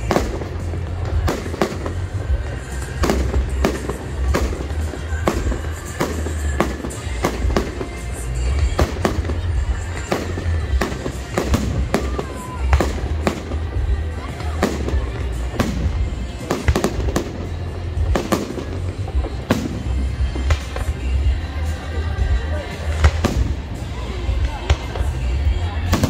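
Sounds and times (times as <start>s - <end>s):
fireworks crackle: 0.0s - 26.0s.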